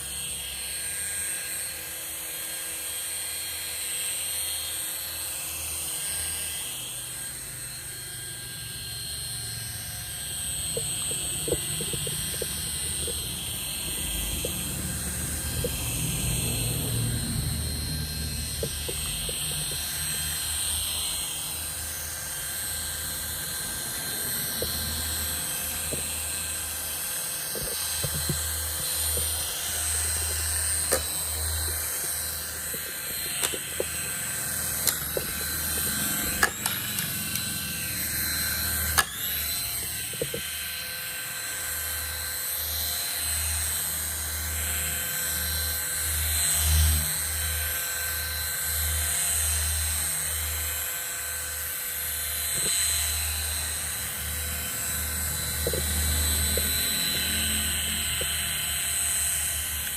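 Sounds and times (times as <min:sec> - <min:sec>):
small aircraft motor whining: 0:04.1 - 0:59.9.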